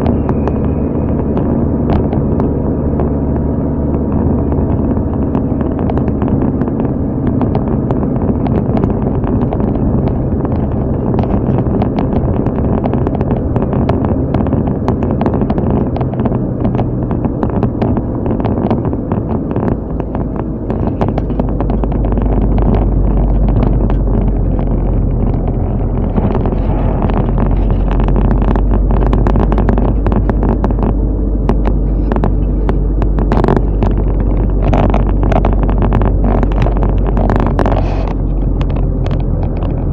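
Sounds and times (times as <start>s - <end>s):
car engine and road noise: 0.0s - 39.9s
wind on microphone: 0.0s - 39.9s.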